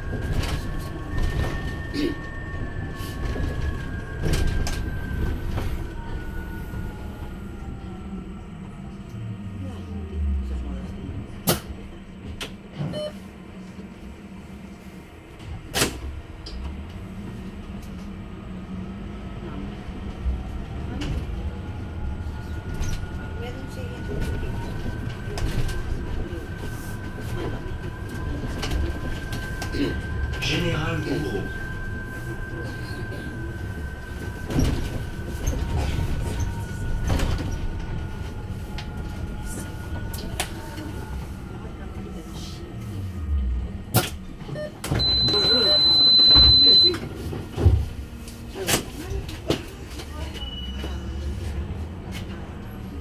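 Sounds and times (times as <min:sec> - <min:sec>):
bus interior hum and rumble: 0:00.0 - 0:53.0.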